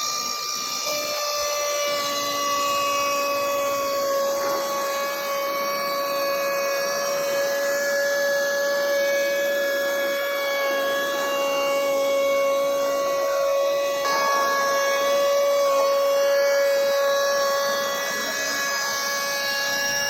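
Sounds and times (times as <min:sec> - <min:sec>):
electric saw cutting log: 0:00.0 - 0:20.0.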